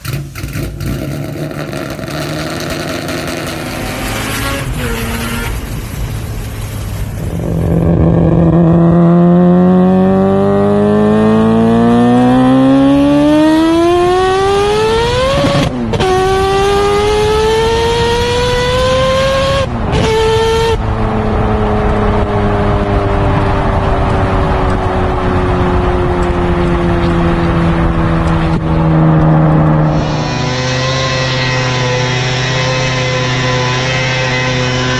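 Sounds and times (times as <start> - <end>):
rotary racing engine accelerating: 0.0 - 5.9, 7.2 - 34.9.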